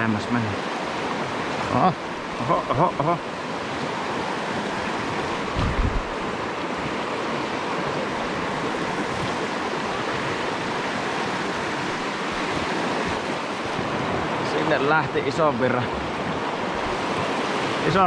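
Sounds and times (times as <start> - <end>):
river rapids rushing: 0.0 - 18.0.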